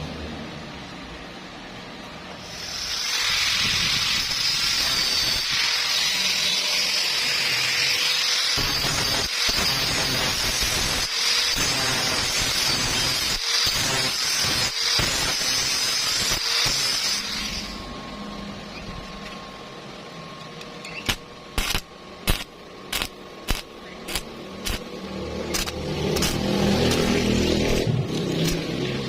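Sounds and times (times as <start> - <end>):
welding arc crackling and hissing: 2.4 - 17.9, 20.9 - 29.0.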